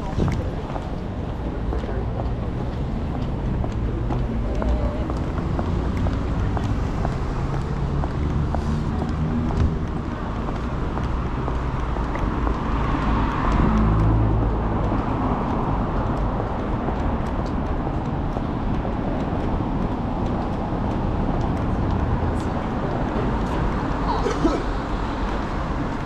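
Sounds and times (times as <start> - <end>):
passing cars: 0.0 - 26.0.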